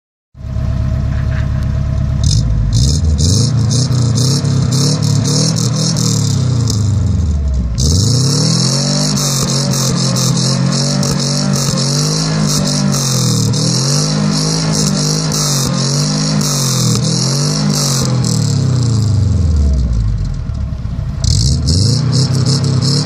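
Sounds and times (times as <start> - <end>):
car engine idling and revving: 0.4 - 23.0.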